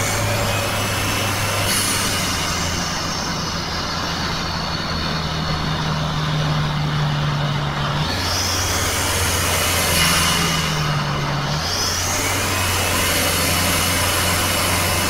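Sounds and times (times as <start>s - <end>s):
diesel engine droning: 0.0s - 15.0s
tyre and road noise: 0.0s - 15.0s.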